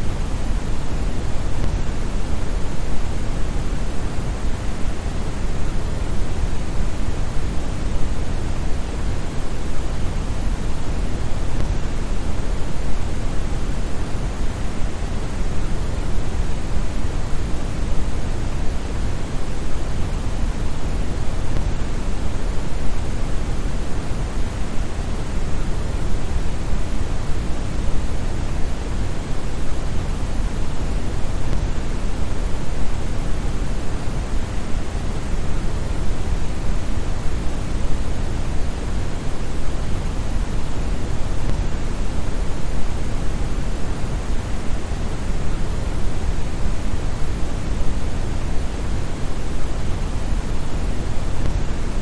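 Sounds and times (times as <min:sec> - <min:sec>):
brown noise: 0:00.0 - 0:52.0.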